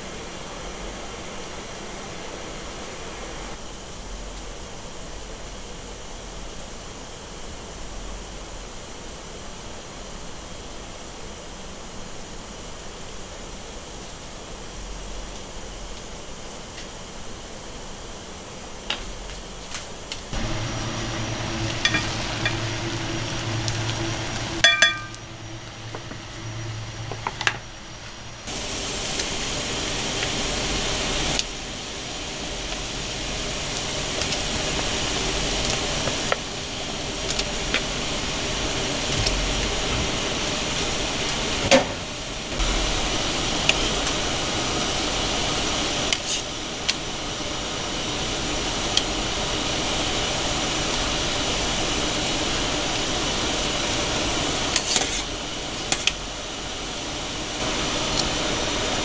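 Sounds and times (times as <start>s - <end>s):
water boiling in a pot: 0.0s - 59.0s.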